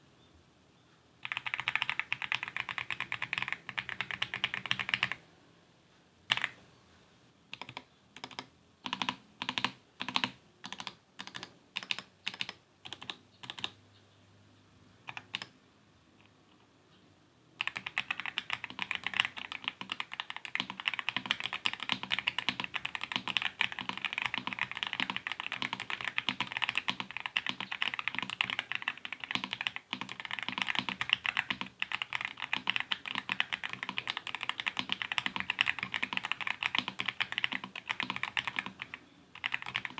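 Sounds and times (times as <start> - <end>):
mechanical keyboard typing: 1.2 - 5.2, 6.3 - 6.6, 7.5 - 13.8, 15.0 - 15.5, 17.6 - 39.9.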